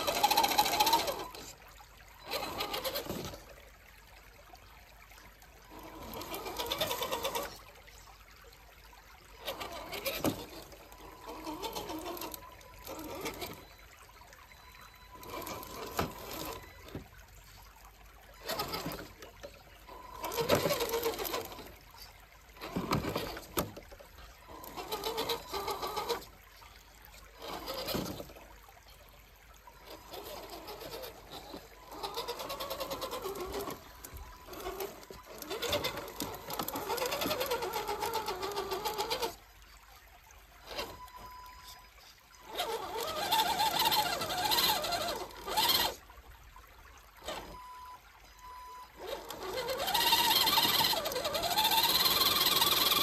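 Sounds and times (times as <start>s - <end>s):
electric motor and gears whining: 0.0s - 3.6s, 5.6s - 7.7s, 9.3s - 17.6s, 18.3s - 26.4s, 27.3s - 28.4s, 29.8s - 39.4s, 40.6s - 46.0s, 47.1s - 53.0s.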